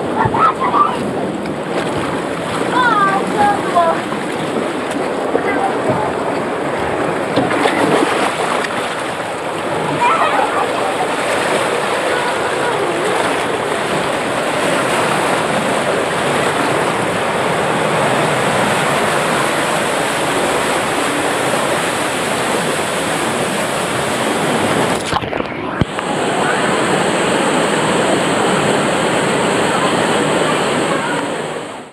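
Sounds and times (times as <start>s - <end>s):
water rushing down a slide: 0.0s - 31.9s.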